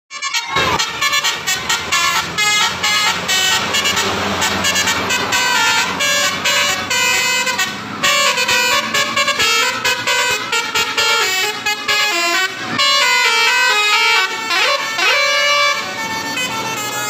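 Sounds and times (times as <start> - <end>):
multi-tone bus horn melody: 0.1 - 17.0.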